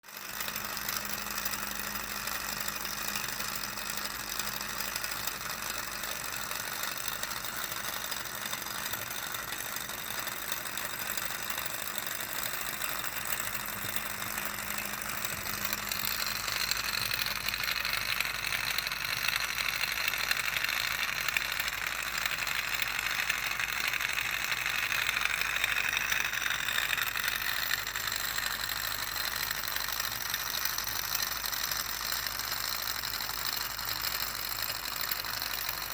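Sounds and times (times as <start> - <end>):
small engine mechanical rattle: 0.0 - 35.9.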